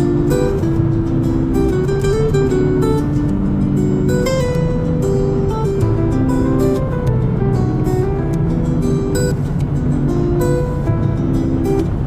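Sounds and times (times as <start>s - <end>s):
dense low accompaniment: 0.0s - 12.0s
plucked-string melody: 0.0s - 12.0s.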